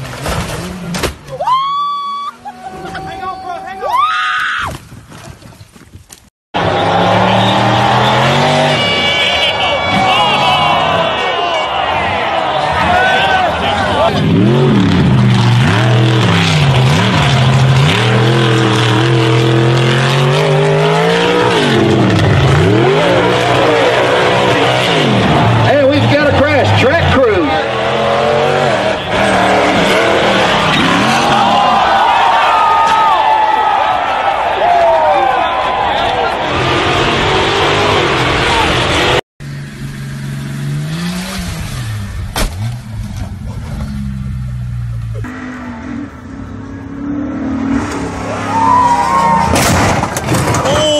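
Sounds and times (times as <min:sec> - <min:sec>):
truck engine revving hard: 0:06.6 - 0:32.7, 0:35.7 - 0:50.7.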